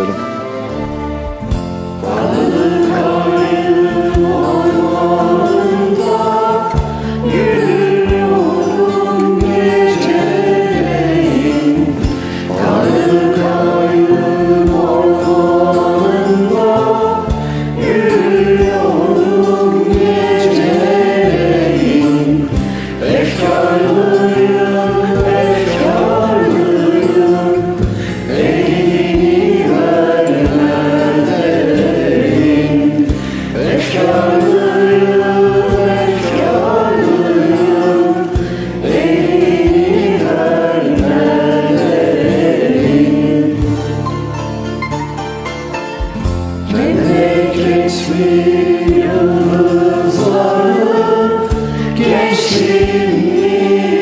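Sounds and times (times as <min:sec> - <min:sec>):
group singing: 0:00.0 - 0:44.4, 0:46.0 - 0:54.0
karaoke backing track: 0:00.0 - 0:54.0.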